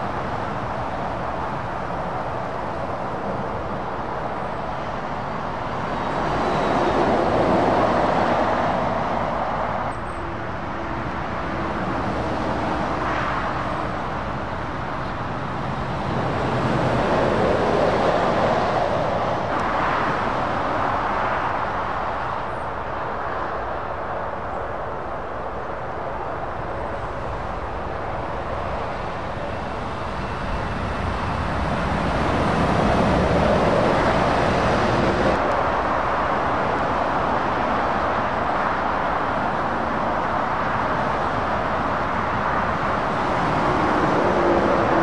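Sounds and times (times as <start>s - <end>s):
lorries driving past: 0.0s - 45.0s
steady road traffic: 0.0s - 45.0s.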